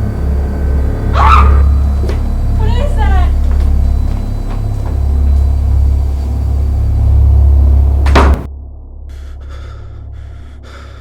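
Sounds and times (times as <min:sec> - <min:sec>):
deep rumbling drone: 0:00.0 - 0:11.0.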